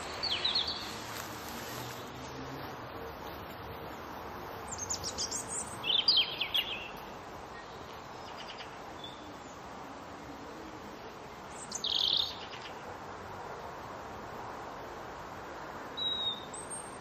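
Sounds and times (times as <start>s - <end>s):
songbirds chirping: 0.0s - 13.0s, 16.0s - 17.0s
outdoor ambience hiss: 0.0s - 17.0s.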